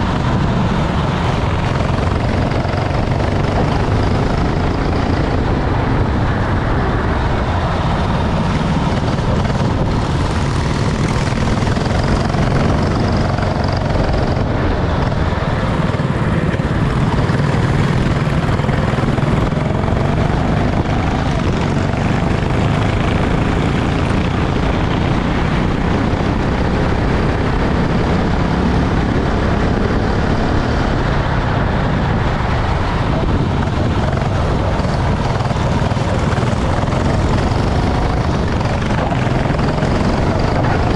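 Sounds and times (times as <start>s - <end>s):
go-kart engine running: 0.0s - 40.9s
loud steady rushing noise: 0.0s - 40.9s.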